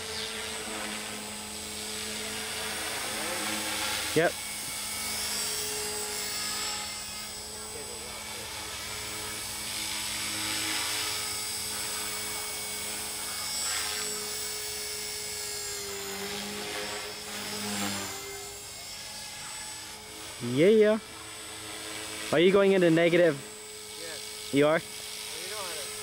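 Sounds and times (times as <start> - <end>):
rc helicopter motor whine: 0.0 - 26.0
rotor blades whirring: 0.0 - 26.0.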